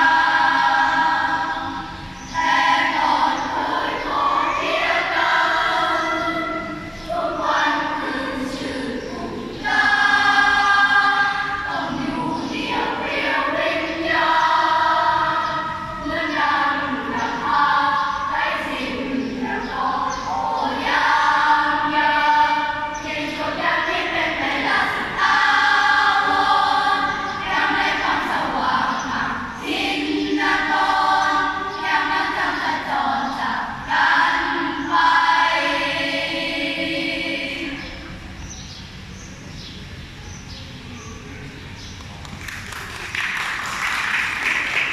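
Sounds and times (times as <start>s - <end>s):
children's choir singing: 0.0s - 39.2s, 43.1s - 44.9s.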